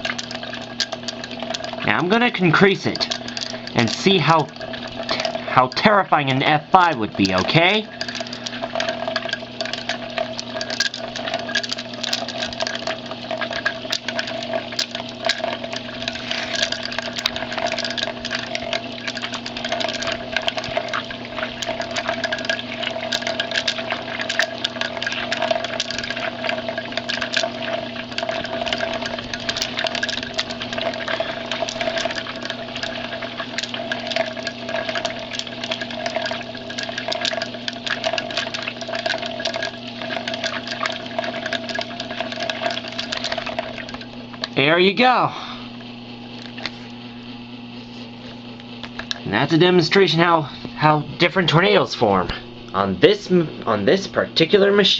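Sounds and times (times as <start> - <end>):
water churning and splashing: 0.0 - 44.5
motor hum: 0.0 - 54.9.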